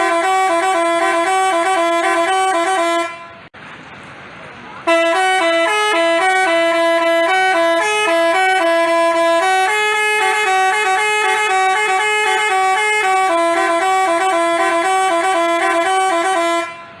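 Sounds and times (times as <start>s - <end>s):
multi-tone horn playing a melody: 0.0s - 3.5s, 4.9s - 17.0s.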